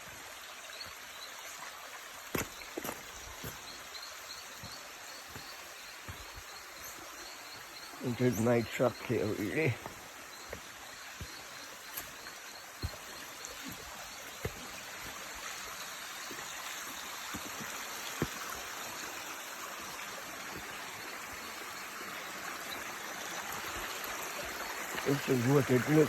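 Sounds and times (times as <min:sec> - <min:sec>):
floodwater rushing in a stream: 0:00.0 - 0:26.0.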